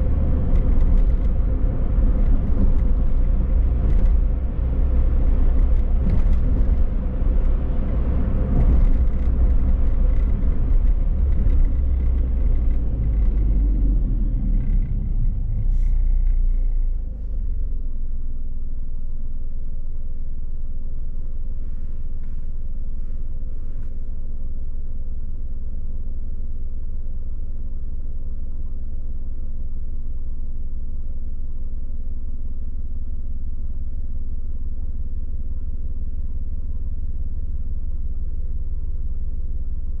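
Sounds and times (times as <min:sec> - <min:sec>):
car driving with road noise: 0:00.0 - 0:40.0.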